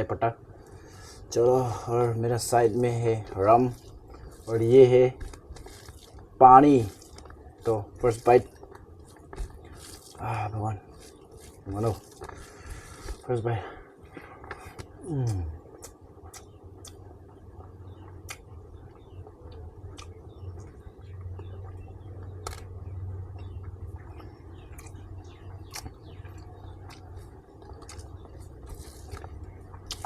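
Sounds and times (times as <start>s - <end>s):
steady low hum: 0.0s - 30.0s
person chewing with mouth clicks: 3.2s - 13.3s, 14.0s - 22.6s, 23.3s - 30.0s.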